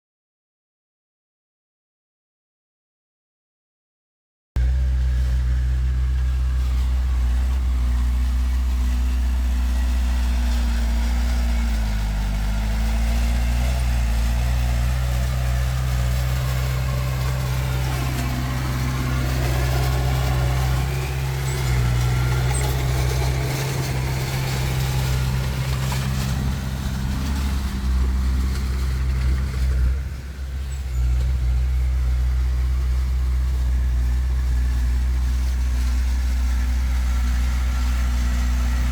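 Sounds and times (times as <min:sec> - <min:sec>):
diesel machinery engines droning: 0:04.6 - 0:38.9.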